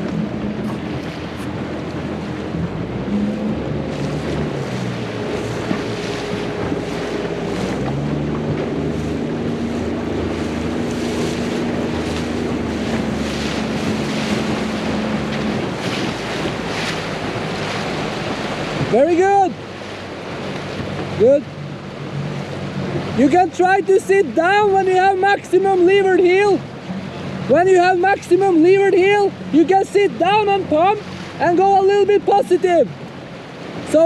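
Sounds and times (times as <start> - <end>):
motorboat engine running: 0.0 - 34.0
water rushing past hull: 0.0 - 34.0
wind buffeting microphone: 0.0 - 34.0.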